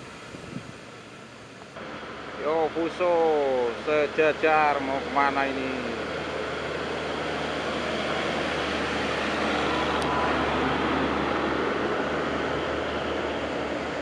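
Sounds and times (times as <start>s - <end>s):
truck traffic drone: 0.0s - 14.0s.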